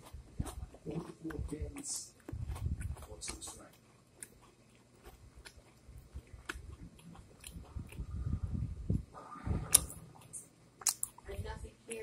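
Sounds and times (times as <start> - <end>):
person chewing cookie: 0.0 - 11.3.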